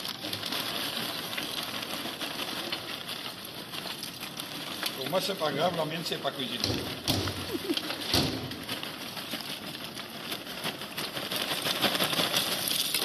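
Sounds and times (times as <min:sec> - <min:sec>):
charcoal pouring into metal bowl: 0:00.0 - 0:13.0.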